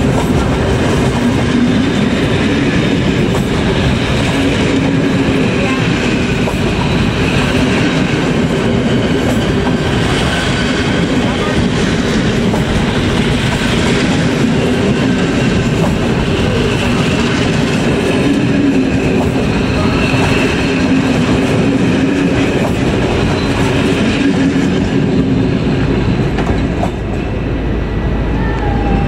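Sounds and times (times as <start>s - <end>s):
train wheels clattering on rails: 0.0s - 27.4s.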